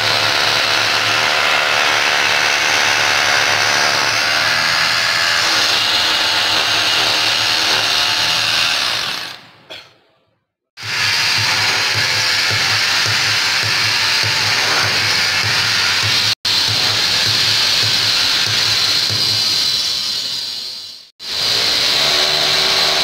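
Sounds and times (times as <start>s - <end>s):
rotary hammer drilling into concrete: 0.0s - 9.5s, 10.8s - 23.0s.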